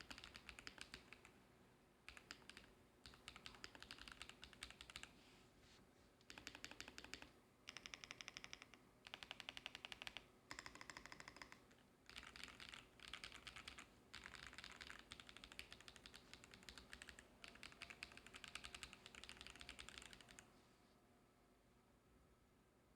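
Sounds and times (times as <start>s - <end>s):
mechanical keyboard typing: 0.0s - 1.3s, 2.1s - 5.1s, 6.3s - 20.4s.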